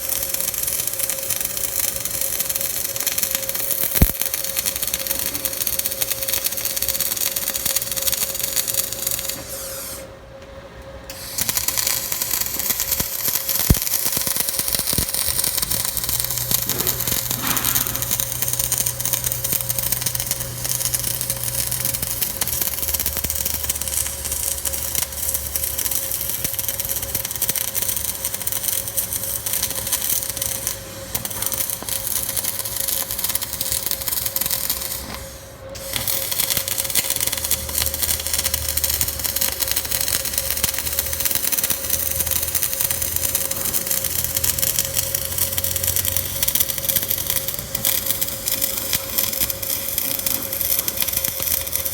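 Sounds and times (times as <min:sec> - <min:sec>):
welding arc crackling hiss: 0:00.0 - 0:10.2, 0:11.1 - 0:51.9
constant hum: 0:00.0 - 0:51.9.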